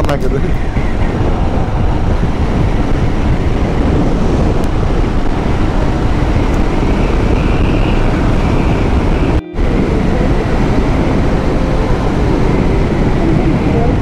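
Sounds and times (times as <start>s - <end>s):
road noise: 0.0s - 14.0s
wind rushing on microphone: 0.0s - 14.0s
motorcycle engine: 0.6s - 14.0s.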